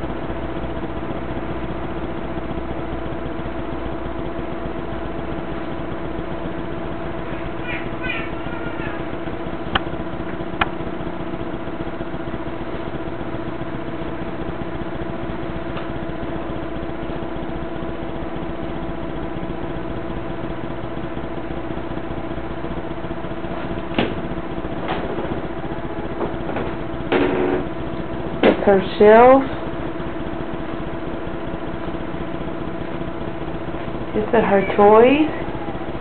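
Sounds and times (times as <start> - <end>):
air conditioner humming: 0.0 - 36.0.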